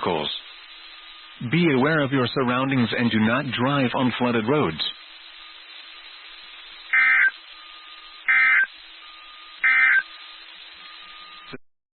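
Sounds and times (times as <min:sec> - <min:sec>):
background hiss: 0:00.0 - 0:11.6
digital data tone bursts: 0:00.0 - 0:11.6.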